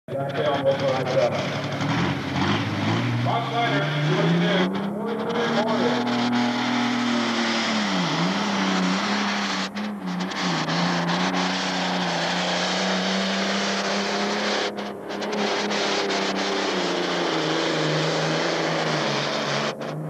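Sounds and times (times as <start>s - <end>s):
diesel engine droning under load: 0.1s - 20.0s.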